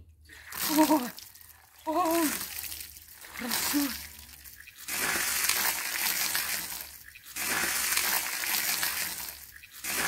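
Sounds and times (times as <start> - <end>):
water poured splashing on snow: 0.3 - 10.0.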